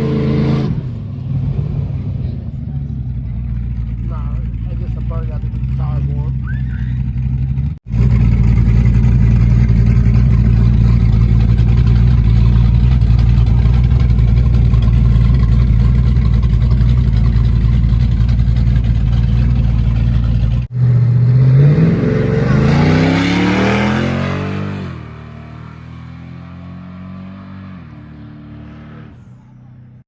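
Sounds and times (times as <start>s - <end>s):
engine revving up: 0.0s - 2.8s, 4.2s - 29.3s
vehicle engine running steady: 0.0s - 26.1s.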